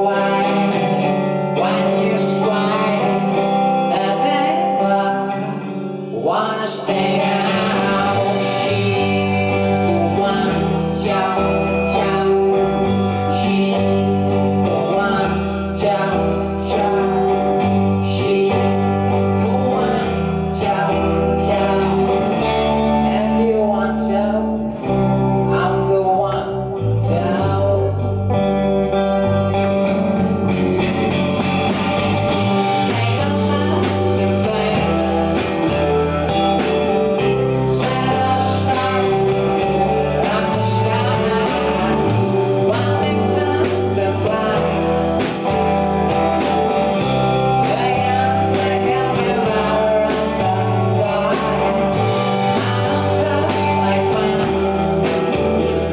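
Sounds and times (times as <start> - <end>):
male lead vocal: 0.0 - 55.9
rock band playing live: 0.0 - 55.9.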